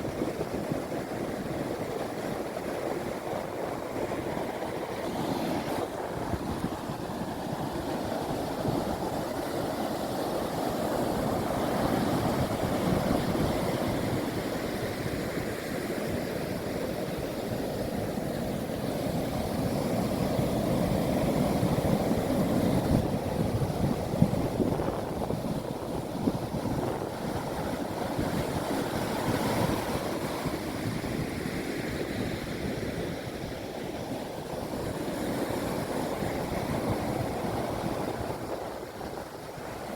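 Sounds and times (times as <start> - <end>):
ocean surf breaking: 0.0 - 39.9
wind on microphone: 0.0 - 39.9.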